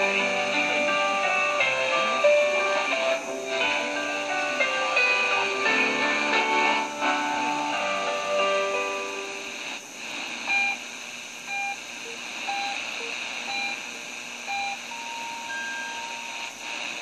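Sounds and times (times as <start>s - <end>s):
shortwave static hiss: 0.0s - 17.0s.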